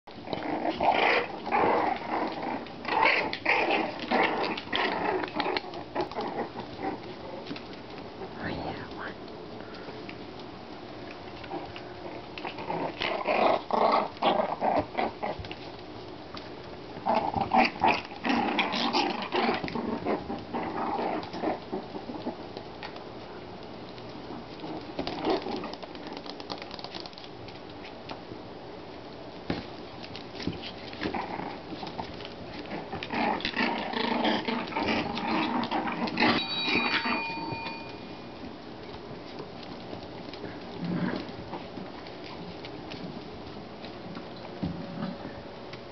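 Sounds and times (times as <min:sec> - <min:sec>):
puppies growling and yapping: 0:00.1 - 0:08.6, 0:09.8 - 0:28.2, 0:29.5 - 0:45.9.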